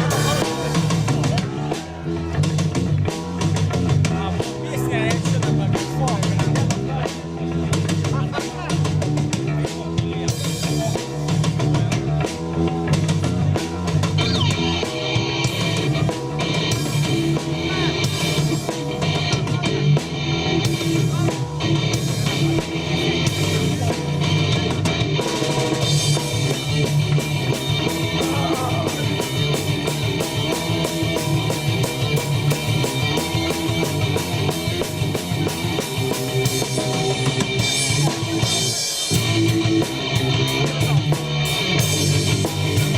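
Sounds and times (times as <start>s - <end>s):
drum kit beat: 0.0s - 42.9s
electric guitar: 0.0s - 42.9s.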